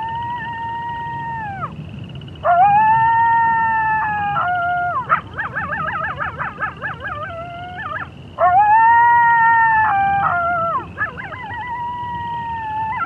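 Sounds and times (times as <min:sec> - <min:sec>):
wolves howling: 0:00.0 - 0:01.8, 0:02.4 - 0:13.0
wolves yipping: 0:02.5 - 0:13.0.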